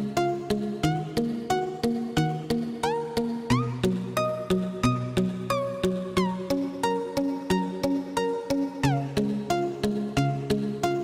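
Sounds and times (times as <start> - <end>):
background music with plucked notes: 0.0 - 11.0.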